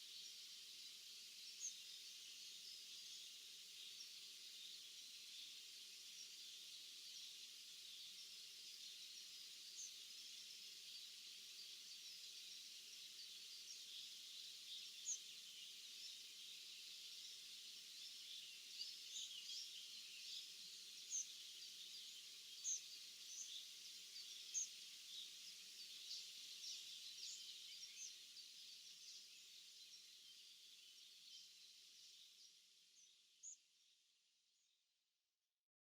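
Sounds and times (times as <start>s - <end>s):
distant birdsong hiss: 0.0s - 34.8s.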